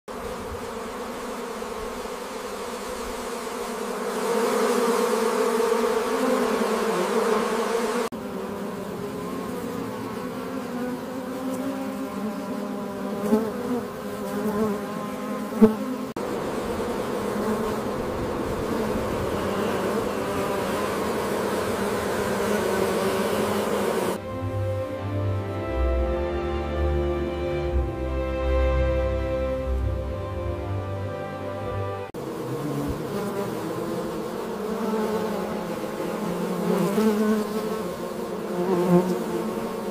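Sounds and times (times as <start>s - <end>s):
honeybees buzzing: 0.1s - 39.9s.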